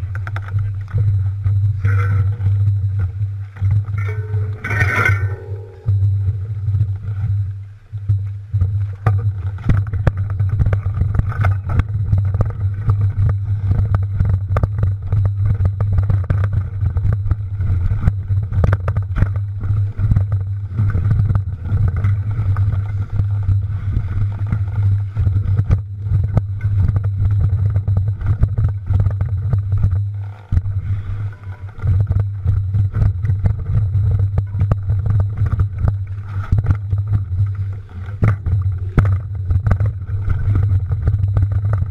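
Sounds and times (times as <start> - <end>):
wind rumble on microphone: 0.0 - 41.9
bike rattling knocks and clicks: 1.8 - 6.1, 8.6 - 41.9.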